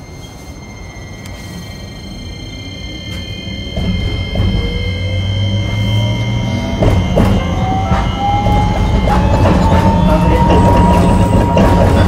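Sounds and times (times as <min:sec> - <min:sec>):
tram electric drive whine: 0:00.0 - 0:12.0
tram wheels clunking: 0:00.0 - 0:12.0.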